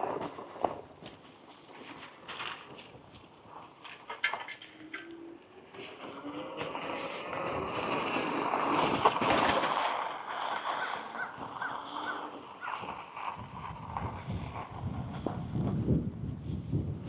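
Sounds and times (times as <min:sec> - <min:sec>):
bike tires rolling on trail: 0:00.0 - 0:17.0.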